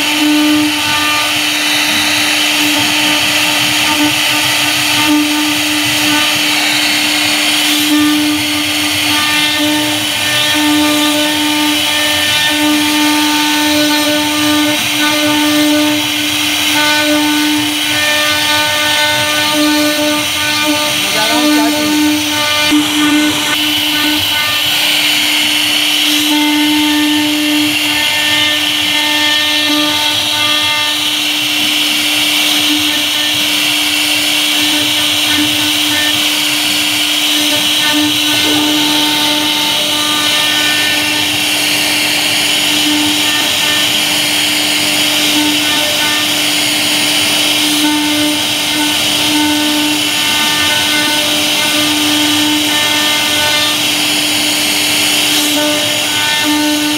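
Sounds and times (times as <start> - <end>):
bit cutting wood hiss: 0.0 - 56.9
router spindle whine: 0.0 - 56.9.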